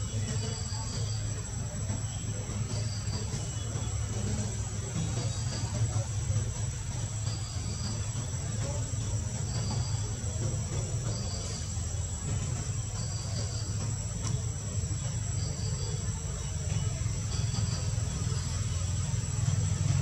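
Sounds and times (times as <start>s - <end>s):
insect chirps: 0.0s - 20.0s
insects droning: 0.0s - 20.0s.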